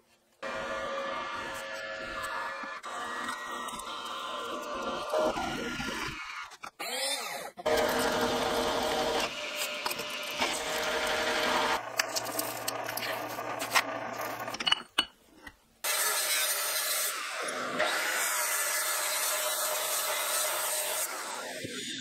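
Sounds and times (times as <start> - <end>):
workshop power tools running: 0.4 - 14.6, 15.8 - 22.0.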